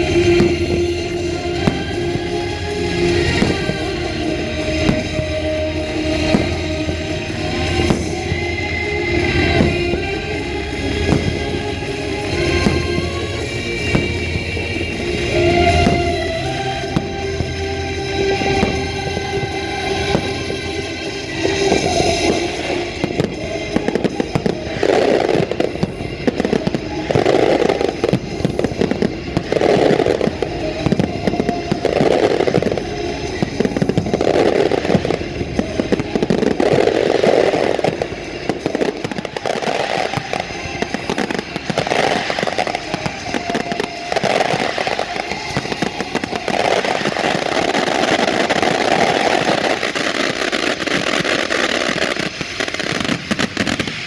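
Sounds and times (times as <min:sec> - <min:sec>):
fireworks bangs and crackles: 0:00.0 - 0:54.0
orchestral music: 0:00.0 - 0:54.0.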